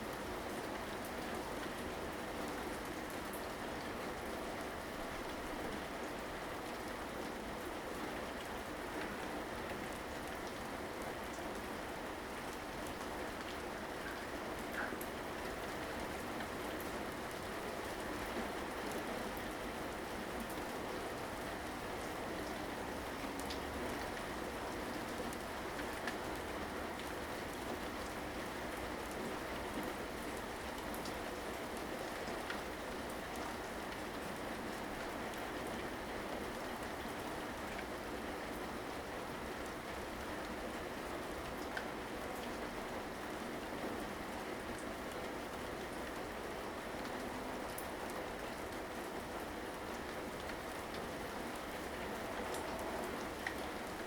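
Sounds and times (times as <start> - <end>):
steady rain falling: 0.0 - 54.0
raindrops pattering on surfaces: 0.1 - 54.0.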